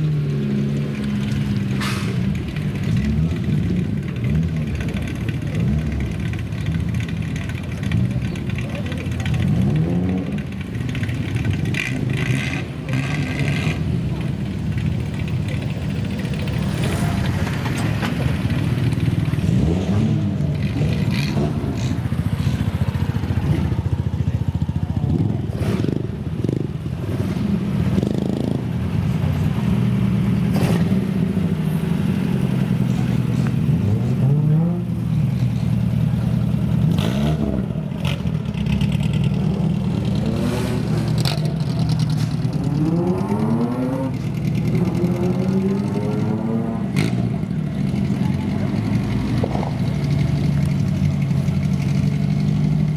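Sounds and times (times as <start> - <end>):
vehicle exhausts rumbling: 0.0 - 52.9
engine revving: 7.8 - 10.6, 11.4 - 14.3, 16.2 - 52.9.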